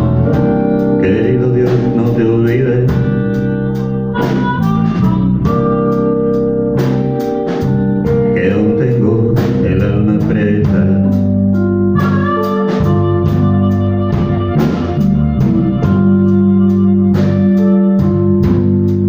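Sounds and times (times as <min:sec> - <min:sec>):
guitars: 0:00.0 - 0:19.0
organ: 0:00.0 - 0:19.0
steady drum beat: 0:00.0 - 0:19.0.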